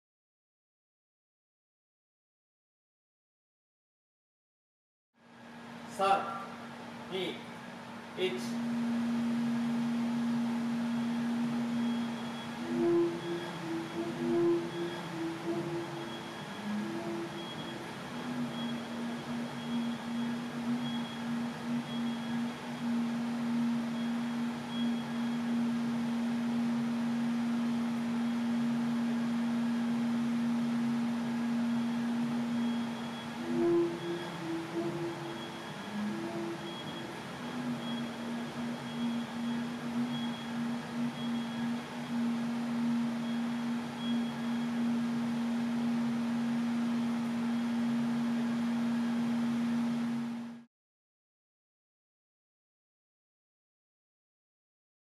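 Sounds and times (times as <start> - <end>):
machine noise hiss: 5.2 - 50.7
shake table humming: 5.7 - 50.6.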